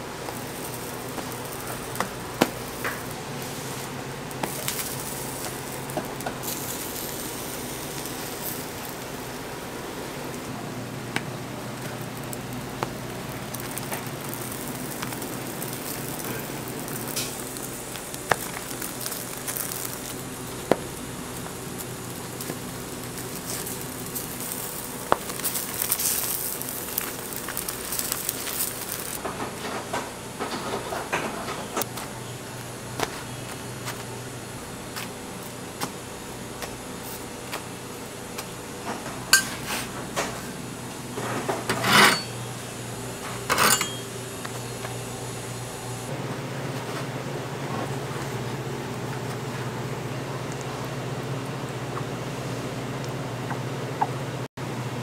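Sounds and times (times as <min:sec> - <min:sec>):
buns sizzling on griddle: 0:00.0 - 0:46.1.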